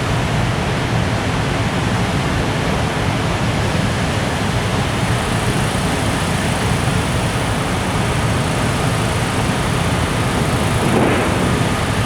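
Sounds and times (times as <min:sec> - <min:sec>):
freight train wheels on rail: 0:00.0 - 0:12.0.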